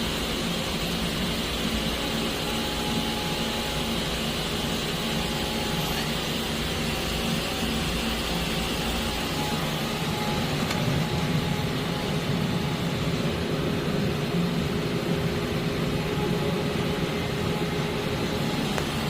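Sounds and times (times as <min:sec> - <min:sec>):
lathe spindle spinning: 0:00.0 - 0:19.0.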